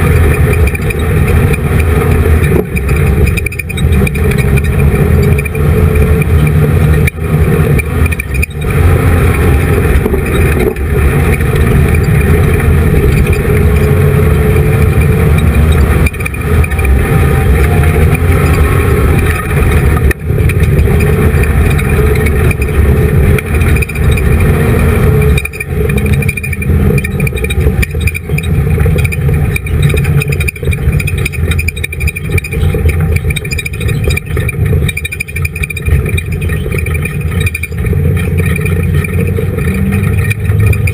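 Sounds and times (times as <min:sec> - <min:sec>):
race car engine: 0:00.0 - 0:40.9.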